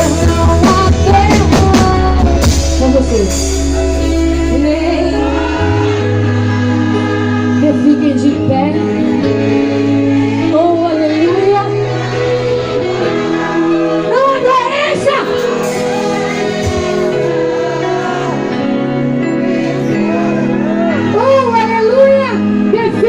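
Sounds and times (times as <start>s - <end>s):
woman singing gospel: 0.0s - 18.5s
sustained held chords: 2.0s - 23.0s.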